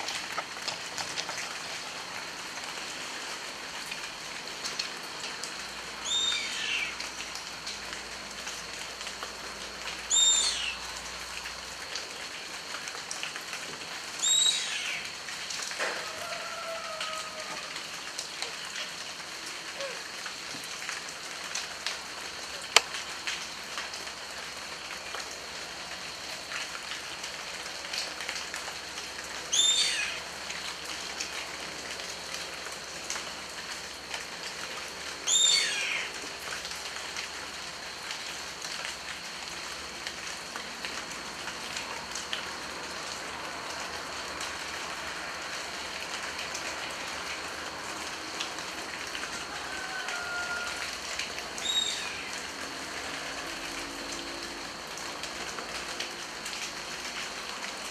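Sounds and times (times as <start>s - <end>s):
steady rain dripping: 0.0s - 57.9s.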